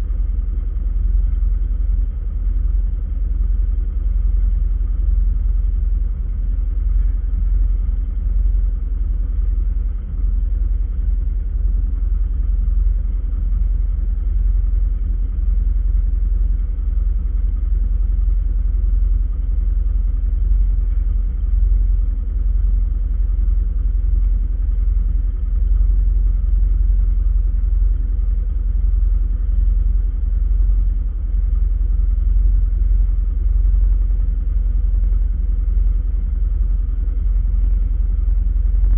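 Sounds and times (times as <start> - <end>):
car driving rumble: 0.0 - 38.9.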